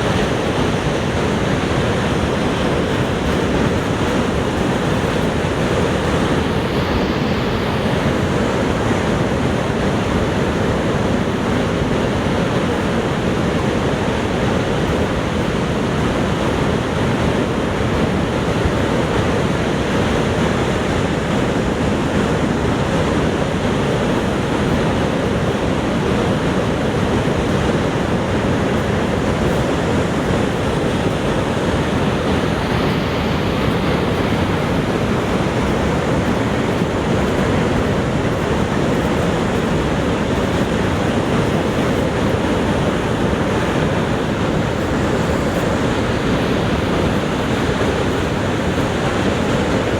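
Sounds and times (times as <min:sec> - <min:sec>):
rush of falling water: 0:00.0 - 0:49.9.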